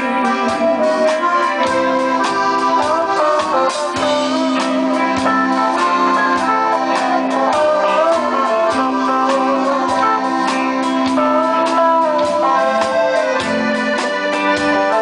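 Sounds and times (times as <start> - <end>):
accordion chords and melody: 0.0 - 15.0
drums: 0.0 - 15.0
electric guitar: 0.0 - 15.0.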